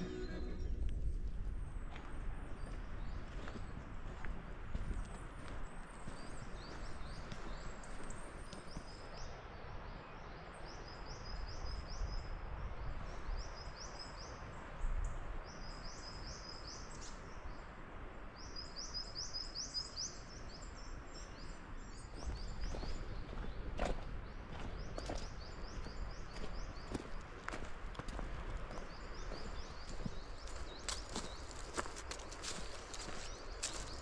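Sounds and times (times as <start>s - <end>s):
songbird chirping: 0.0s - 34.0s.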